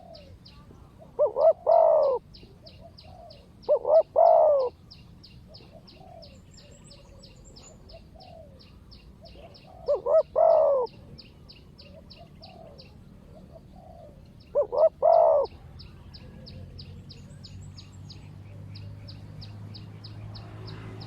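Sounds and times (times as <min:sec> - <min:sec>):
doves cooing: 0:00.0 - 0:17.4.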